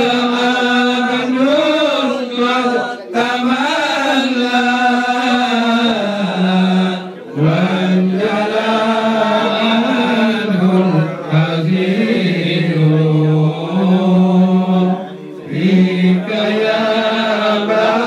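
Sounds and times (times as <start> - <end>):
voices chanting long held notes: 0.0 - 18.0.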